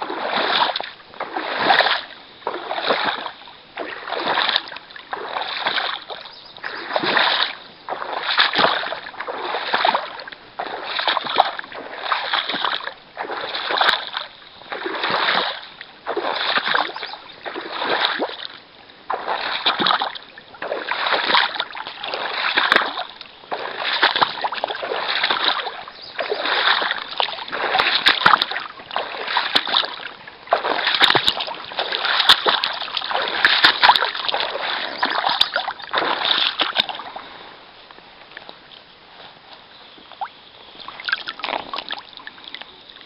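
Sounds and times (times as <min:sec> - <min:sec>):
splashing in shallow water: 0:00.0 - 0:43.0.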